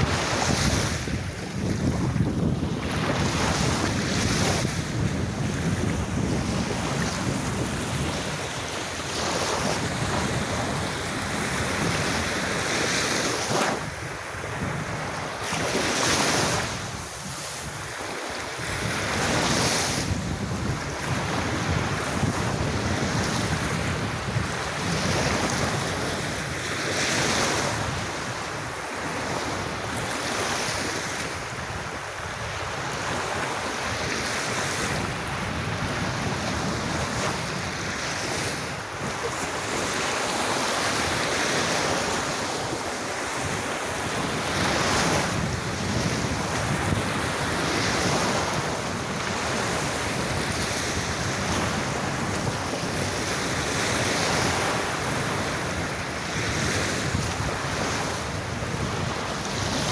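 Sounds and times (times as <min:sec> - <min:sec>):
sea waves washing on beach: 0:00.0 - 0:59.9.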